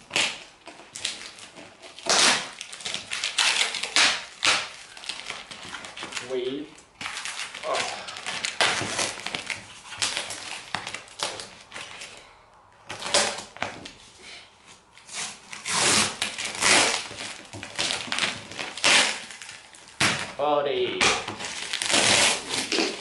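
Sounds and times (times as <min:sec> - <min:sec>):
packing tape ripping off cardboard: 0:00.0 - 0:14.1, 0:14.9 - 0:23.0.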